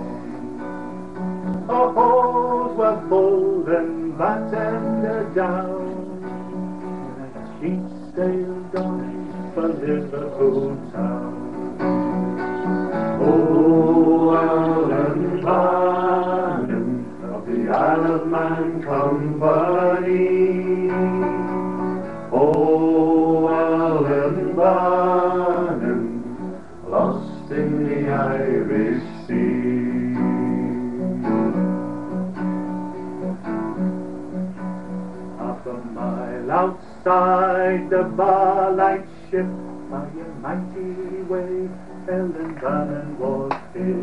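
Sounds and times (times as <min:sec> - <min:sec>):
acoustic guitar playing: 0:00.0 - 0:44.0
man singing: 0:01.6 - 0:06.4, 0:07.0 - 0:11.6, 0:13.2 - 0:21.5, 0:22.3 - 0:31.5, 0:35.4 - 0:44.0.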